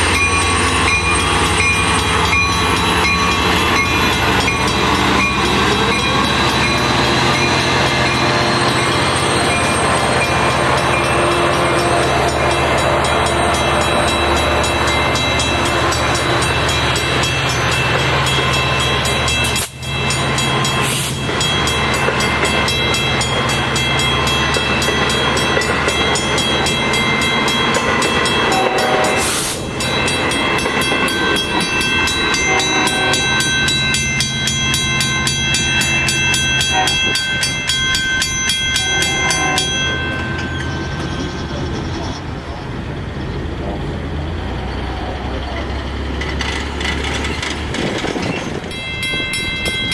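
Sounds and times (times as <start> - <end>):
diesel locomotive engine droning: 0.0 - 49.9.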